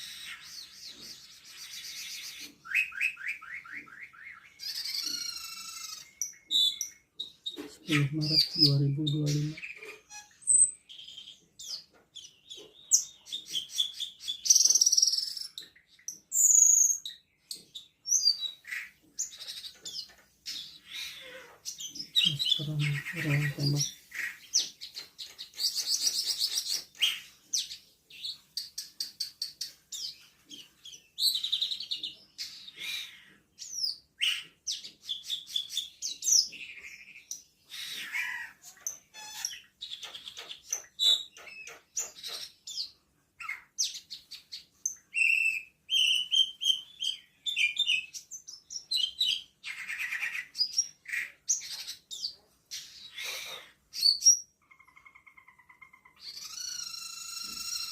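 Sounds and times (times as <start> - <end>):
songbird singing chirps and trills: 0.0 - 57.9.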